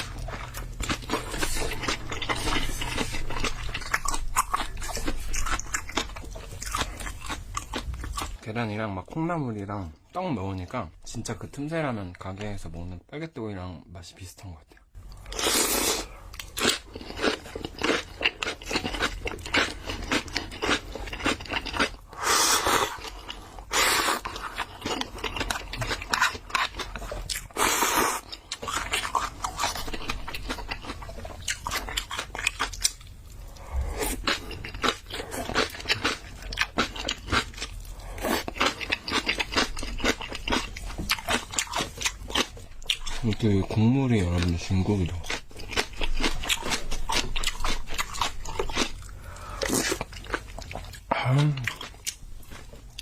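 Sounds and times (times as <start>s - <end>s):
close chewing with crunches: 0.0s - 8.4s, 14.7s - 53.0s.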